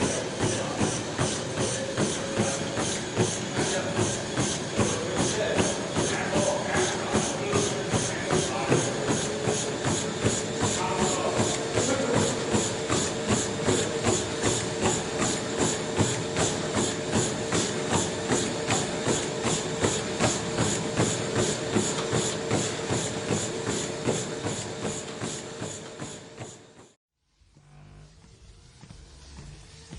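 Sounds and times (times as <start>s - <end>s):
footfalls thudding on treadmill: 0.0s - 26.6s
treadmill motor humming: 0.0s - 29.9s.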